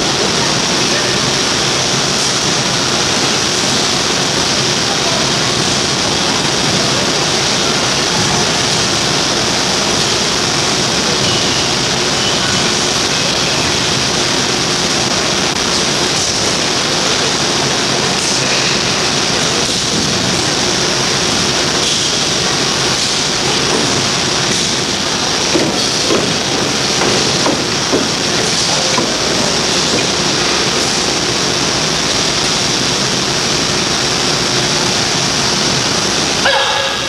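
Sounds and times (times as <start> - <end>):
loud steady hiss: 0.0 - 37.0.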